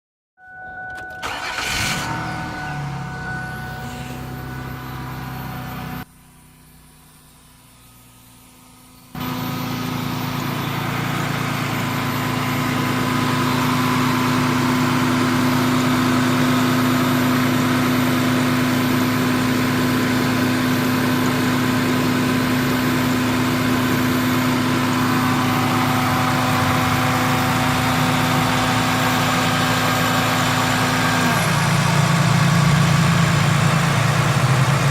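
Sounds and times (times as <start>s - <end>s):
steady humming drone: 0.5s - 34.9s
car engine idling: 1.0s - 7.0s, 9.2s - 34.9s.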